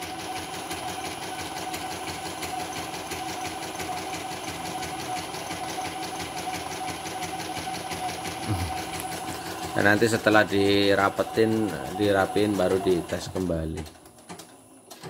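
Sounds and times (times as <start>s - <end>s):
embroidery machine motor hum: 0.0s - 14.0s.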